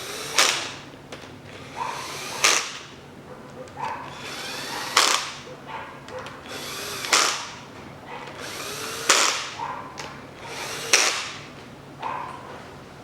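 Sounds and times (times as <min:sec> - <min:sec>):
power driver running bolts: 0:00.0 - 0:11.7.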